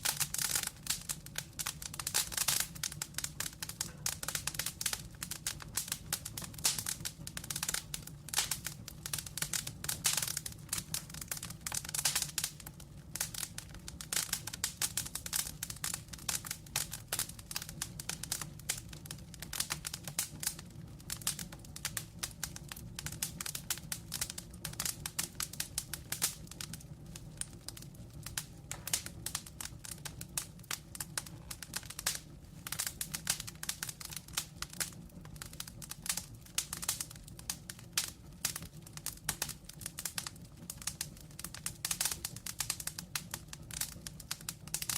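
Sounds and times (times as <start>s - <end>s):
low hiss of flame: 0.0s - 44.9s
wood fire crackling and popping: 0.0s - 44.9s.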